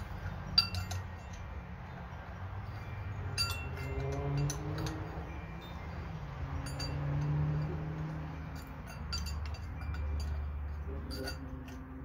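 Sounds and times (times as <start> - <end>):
light metallic clinks: 0.0 - 12.0.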